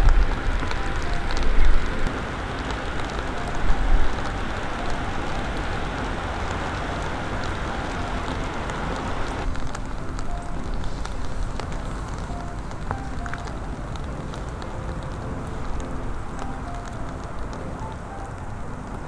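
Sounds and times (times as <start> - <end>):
low rumbles: 0.0 - 19.0
steady rain falling: 0.0 - 19.0.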